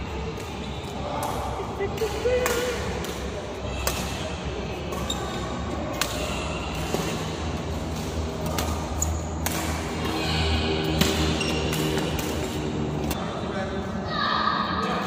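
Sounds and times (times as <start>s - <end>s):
rackets hitting shuttlecock: 0.3s - 10.2s, 10.8s - 13.2s.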